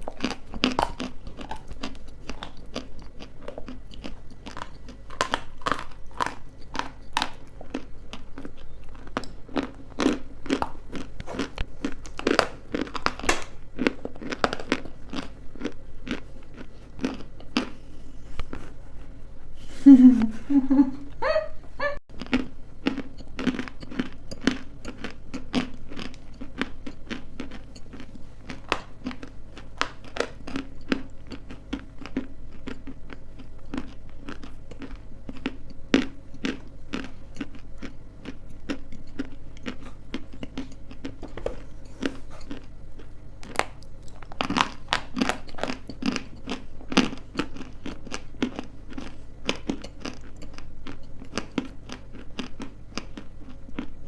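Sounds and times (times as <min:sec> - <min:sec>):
crunchy chewing: 0:00.0 - 0:19.2, 0:22.1 - 0:54.0.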